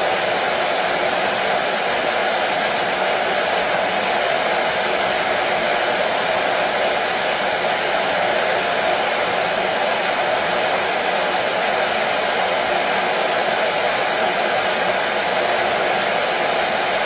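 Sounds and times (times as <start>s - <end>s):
washing machine whirring: 0.0s - 17.0s.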